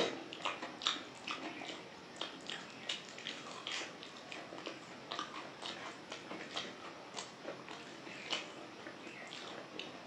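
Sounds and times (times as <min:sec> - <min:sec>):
fingers squishing food: 0:00.0 - 0:10.0
wet open-mouthed chewing: 0:00.0 - 0:10.0.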